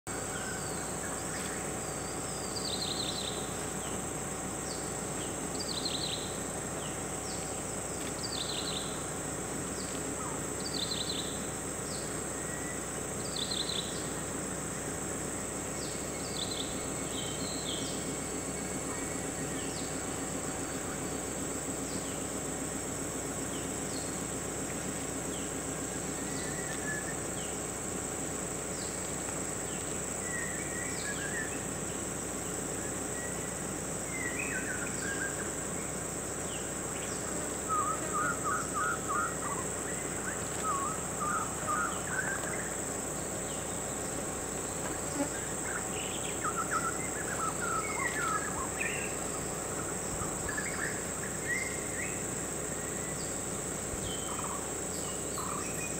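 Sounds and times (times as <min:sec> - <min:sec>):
high-pitched insect drone: 0:00.1 - 0:55.9.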